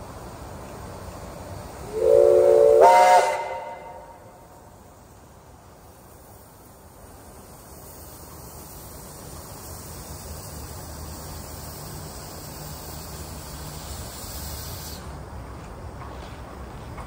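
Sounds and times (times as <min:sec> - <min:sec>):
steam locomotives rumbling and hissing: 0:00.0 - 0:17.0.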